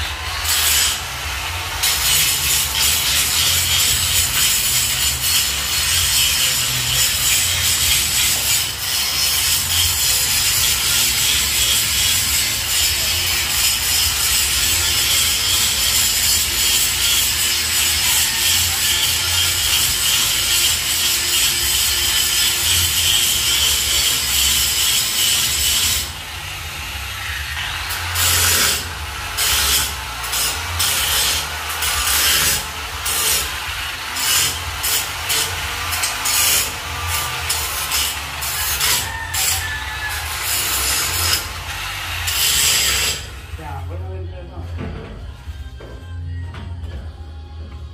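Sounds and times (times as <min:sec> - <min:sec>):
power tool on steel grill: 0:00.0 - 0:43.8.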